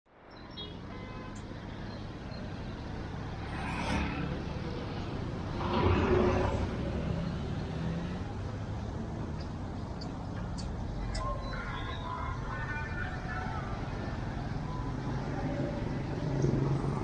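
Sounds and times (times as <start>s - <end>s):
vehicles passing: 0.1s - 17.0s.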